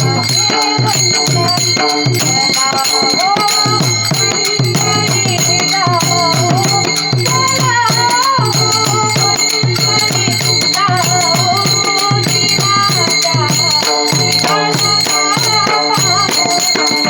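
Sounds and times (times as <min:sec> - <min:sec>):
repeating drum beats: 0:00.0 - 0:17.0
small metal cymbals ringing: 0:00.0 - 0:17.0.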